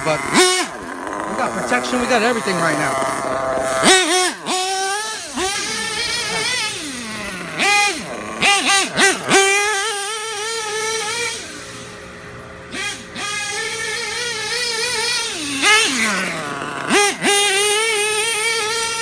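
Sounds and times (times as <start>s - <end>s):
model truck engine revving: 0.0s - 19.0s.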